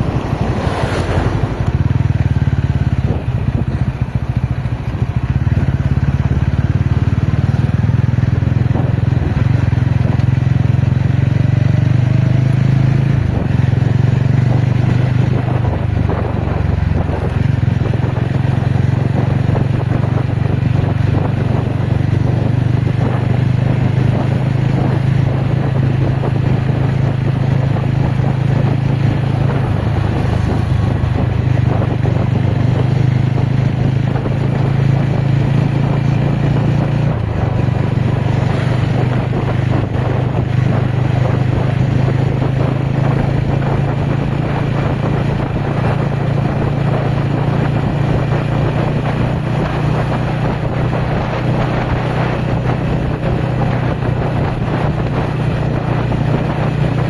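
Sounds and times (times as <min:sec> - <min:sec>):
constant rushing noise: 0:00.0 - 0:57.0
motorcycle engine running: 0:00.0 - 0:57.0.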